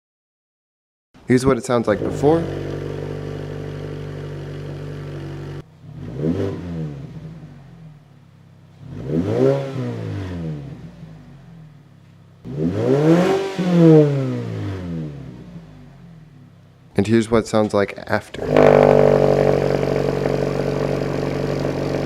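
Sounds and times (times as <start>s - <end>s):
car engine revving: 1.9s - 16.7s, 18.4s - 22.0s.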